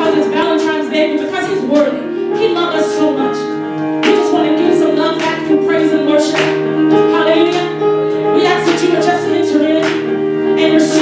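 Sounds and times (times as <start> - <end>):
instrumental backing: 0.0 - 11.0.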